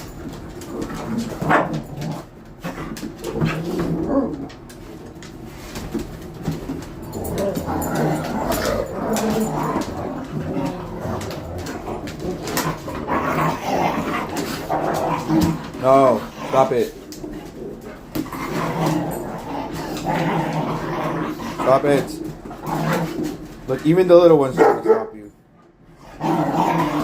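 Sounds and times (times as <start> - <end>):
dogs barking and whining: 0.0 - 23.6, 24.5 - 27.0.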